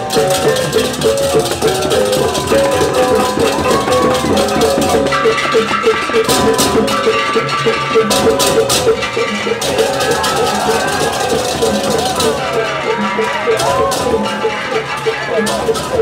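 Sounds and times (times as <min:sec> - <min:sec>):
metallic gong beat: 0:00.0 - 0:14.7
cymbals clashing: 0:00.0 - 0:16.0.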